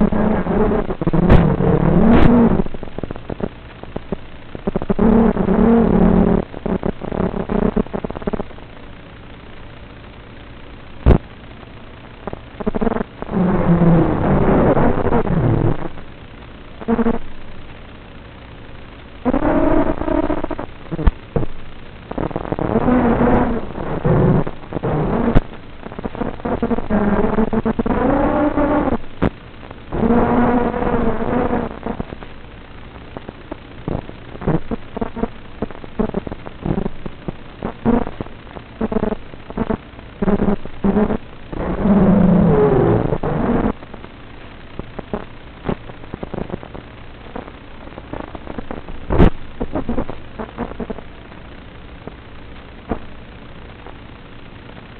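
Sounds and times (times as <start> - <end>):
steady hiss: 0.0 - 54.9.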